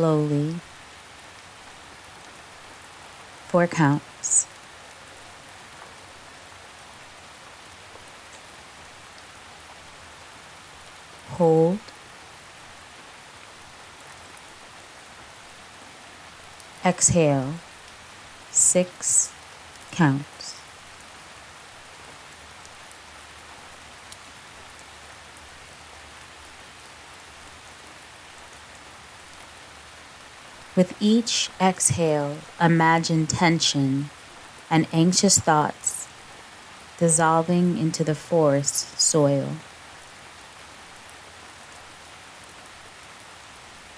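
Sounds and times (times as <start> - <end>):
gentle rainfall: 0.0 - 43.9.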